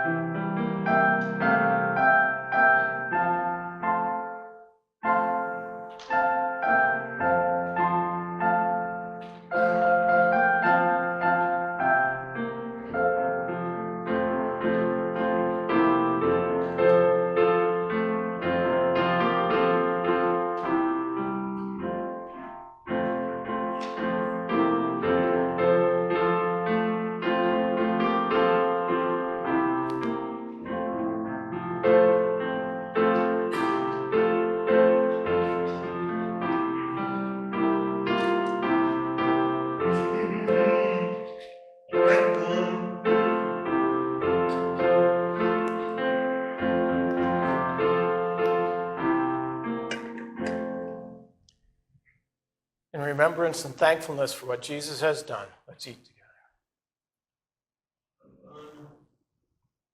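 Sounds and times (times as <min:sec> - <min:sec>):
piano playing slow chords: 0:00.0 - 0:51.3.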